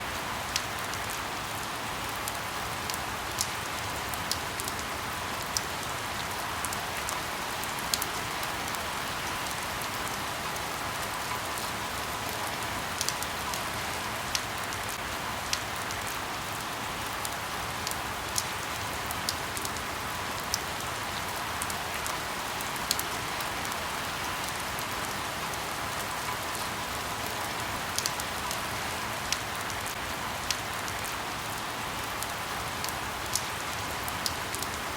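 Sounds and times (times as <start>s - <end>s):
light rain on leaves: 0.0s - 34.9s.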